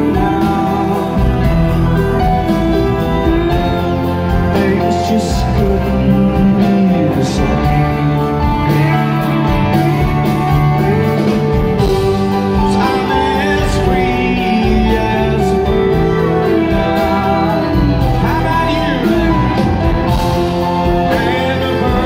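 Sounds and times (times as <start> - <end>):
lead vocal singing: 0.0 - 22.0
live rock band playing: 0.0 - 22.0.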